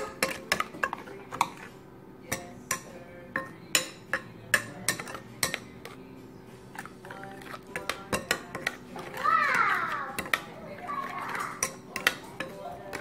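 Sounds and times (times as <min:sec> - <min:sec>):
metal spoon clinking and scraping bowl: 0:00.0 - 0:13.0.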